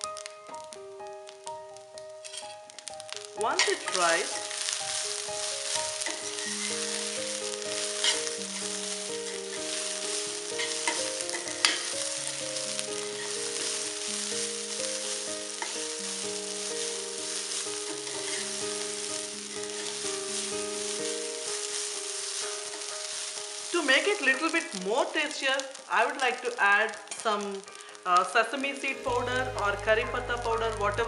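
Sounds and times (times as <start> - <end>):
rice sizzling in a pan: 0.0 - 31.0
soft instrumental music: 0.0 - 31.0.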